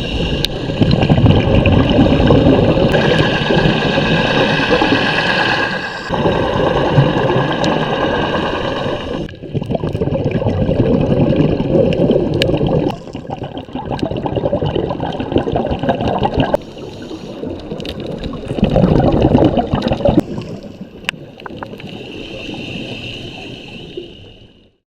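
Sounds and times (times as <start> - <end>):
underwater scuba bubbles gurgling: 0.0 - 24.4.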